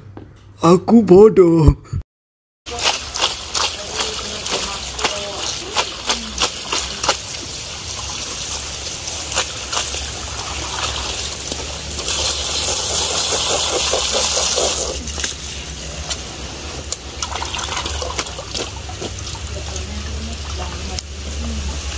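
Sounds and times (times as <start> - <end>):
small splashes: 2.7 - 15.4, 16.9 - 21.9
water running and trickling: 2.7 - 21.9.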